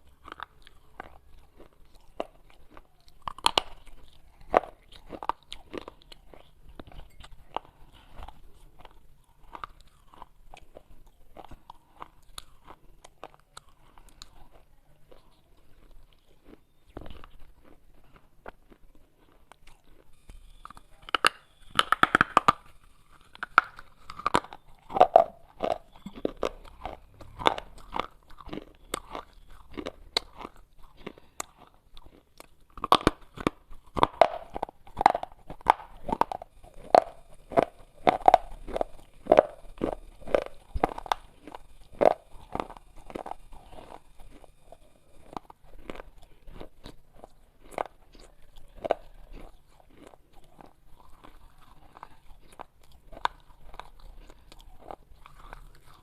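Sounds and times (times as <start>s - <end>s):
clay being chewed and crunched: 0.0s - 56.0s.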